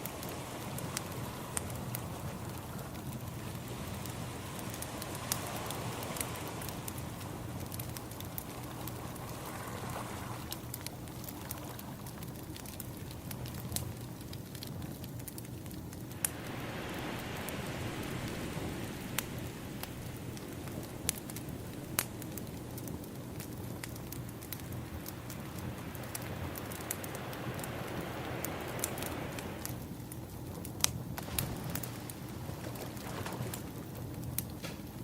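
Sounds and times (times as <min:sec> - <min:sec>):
ocean waves washing in: 0:00.0 - 0:14.0, 0:16.0 - 0:30.1, 0:31.2 - 0:34.0
wood fire crackling: 0:00.0 - 0:35.0.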